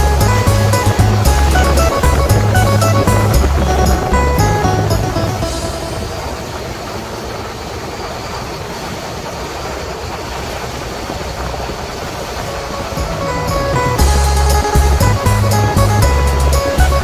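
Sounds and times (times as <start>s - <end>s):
motorboat engine running: 0.0s - 17.0s
rushing water and wind: 0.0s - 17.0s.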